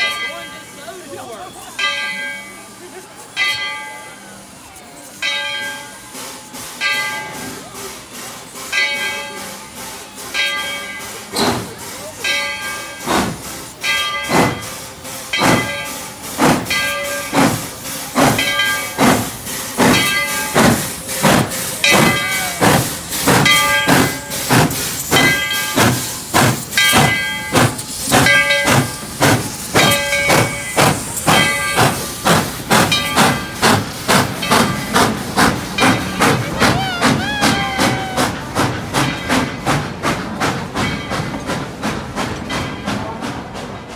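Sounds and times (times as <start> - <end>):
locomotive bell ringing: 0.0 - 43.6
steam locomotive exhaust chuffs: 0.0 - 43.9.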